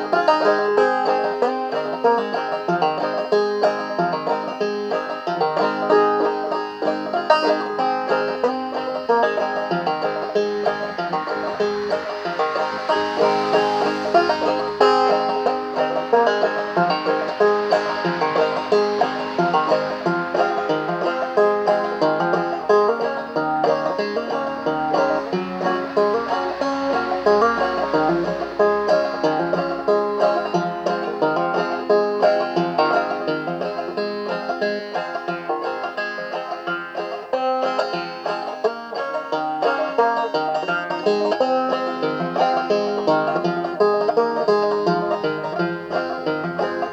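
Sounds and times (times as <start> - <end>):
clawhammer banjo picking: 0.0 - 46.9.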